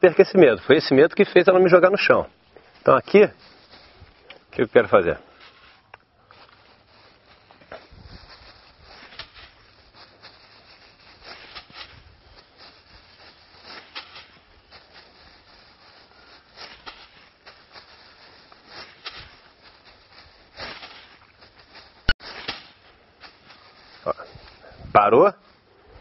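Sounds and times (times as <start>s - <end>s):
plastic bag rustling: 2.3s - 25.9s.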